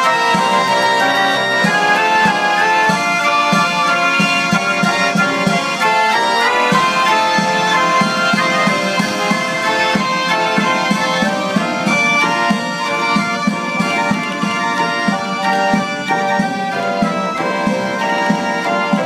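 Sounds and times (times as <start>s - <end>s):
orchestrion playing a tune: 0.0s - 19.0s.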